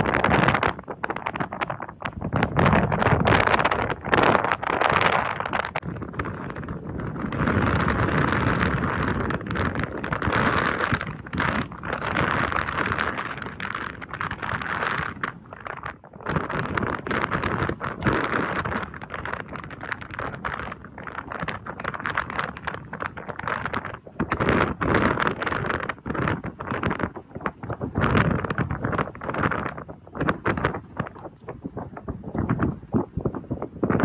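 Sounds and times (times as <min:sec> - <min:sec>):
gusty wind on microphone: 0:00.0 - 0:34.0.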